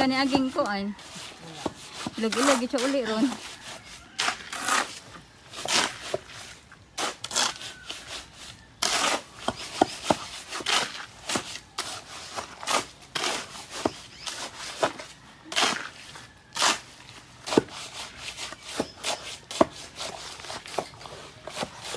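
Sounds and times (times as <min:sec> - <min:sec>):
rough scraping strokes: 0:00.0 - 0:21.9.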